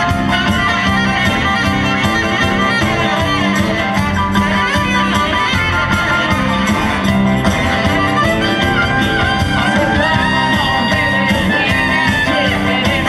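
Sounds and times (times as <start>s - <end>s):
rock and roll band playing: 0.0s - 13.0s
saxophone lead: 0.0s - 13.0s.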